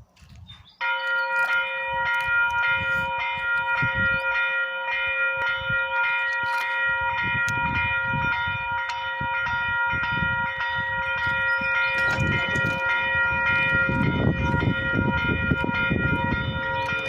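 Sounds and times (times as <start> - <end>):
level crossing bell ringing: 0.8 - 17.0.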